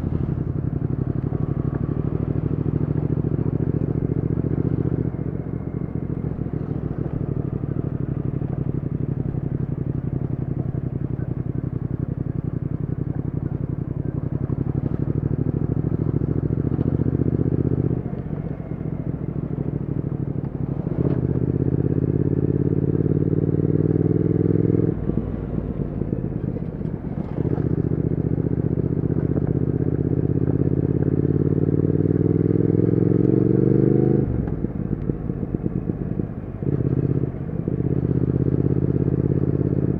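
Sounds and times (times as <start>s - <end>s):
motorcycle engine revving under load: 0.0s - 39.9s.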